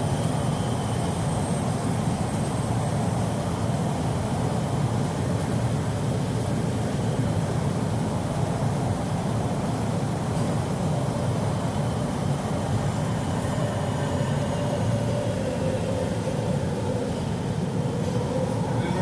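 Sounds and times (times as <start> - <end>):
subway wheels and motors rumbling: 0.0 - 19.0.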